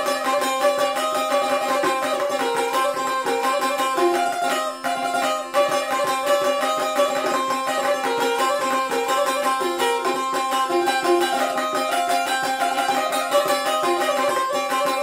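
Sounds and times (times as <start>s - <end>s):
lute playing dance tune: 0.0s - 15.0s.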